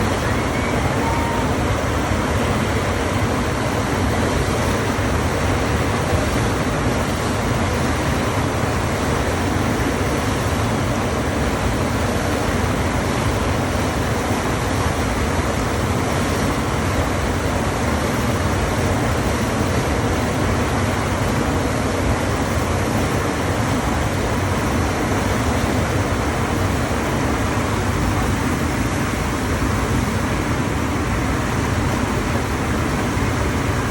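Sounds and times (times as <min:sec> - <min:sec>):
rush of pumped water: 0:00.0 - 0:33.9.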